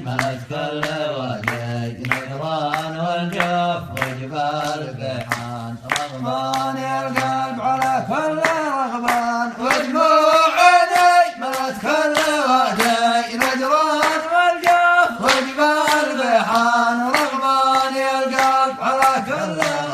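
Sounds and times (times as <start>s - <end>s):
men singing unaccompanied: 0.0s - 19.9s.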